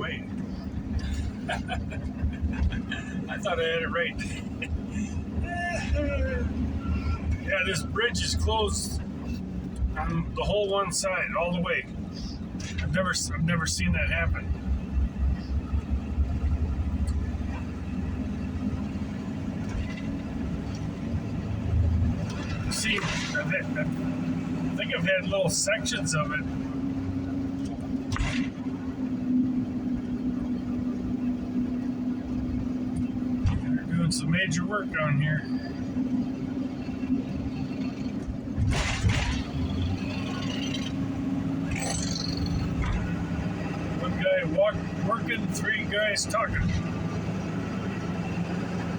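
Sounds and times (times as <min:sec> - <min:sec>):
vehicle driving rumble: 0:00.0 - 0:48.9.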